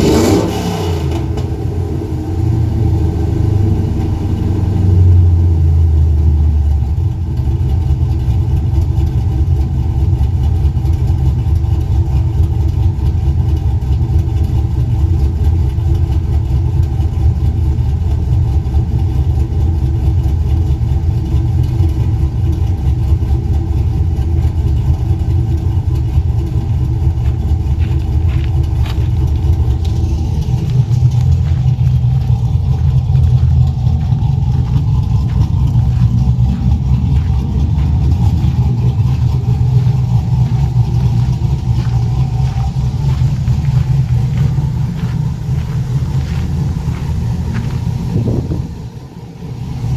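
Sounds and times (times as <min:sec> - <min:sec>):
truck engine and exhaust rumbling: 0:00.0 - 0:49.9.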